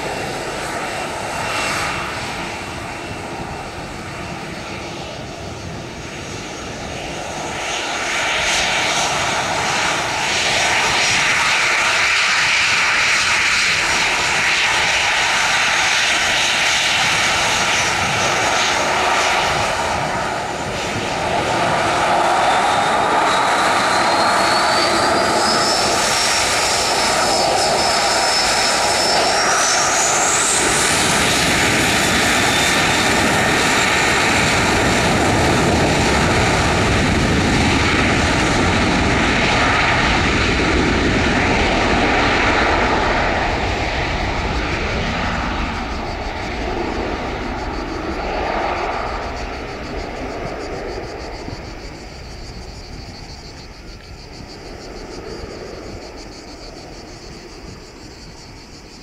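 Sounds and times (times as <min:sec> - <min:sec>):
aircraft rolling rumble: 0:00.0 - 0:59.0
jet engines spooling up: 0:00.0 - 0:59.0.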